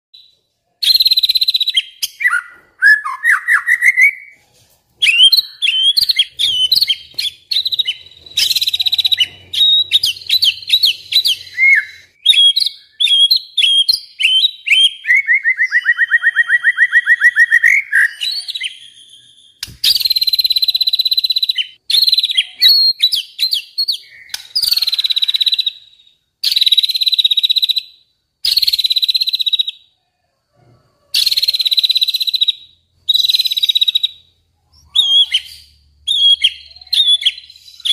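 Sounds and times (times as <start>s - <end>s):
bird singing warbled song: 0.2s - 4.4s, 5.0s - 29.9s, 31.2s - 37.9s.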